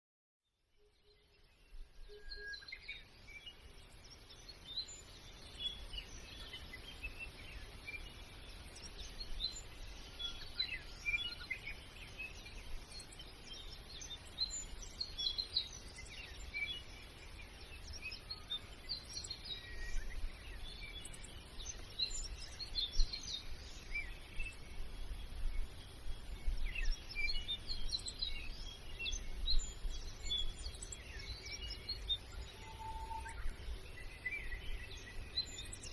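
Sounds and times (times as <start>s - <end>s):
small birds chirping: 0.5s - 35.9s.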